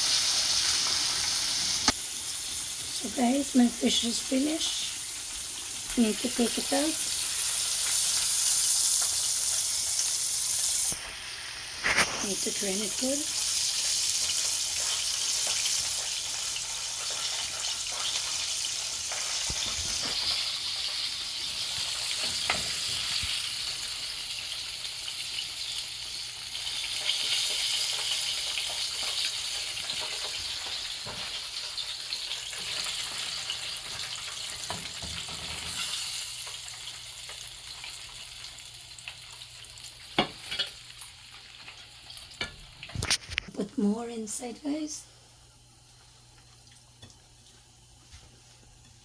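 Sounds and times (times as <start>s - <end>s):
fish sizzling in hot oil: 0.0s - 43.4s.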